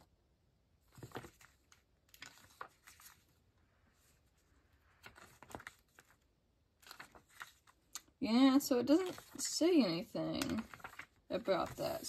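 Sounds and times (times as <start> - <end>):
paper pages rustling: 0.8 - 12.0.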